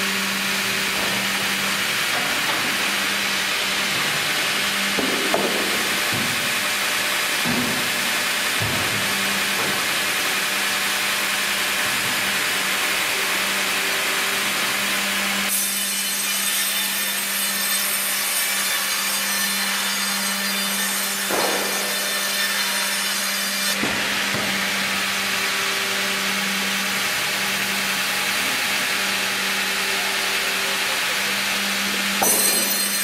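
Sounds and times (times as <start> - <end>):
band saw humming: 0.0 - 33.0
saw blade cutting log: 0.0 - 33.0.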